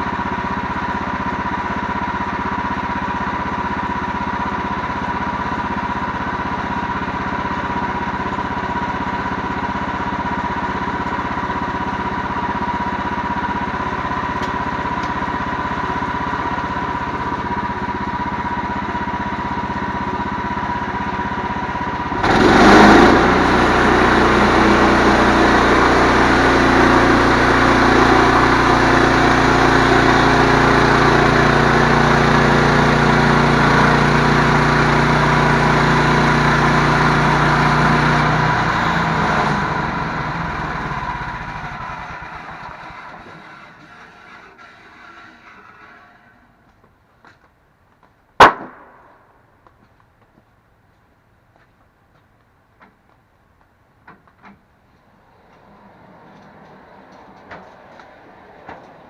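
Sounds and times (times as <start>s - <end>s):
engine running with whine: 0.0s - 47.4s.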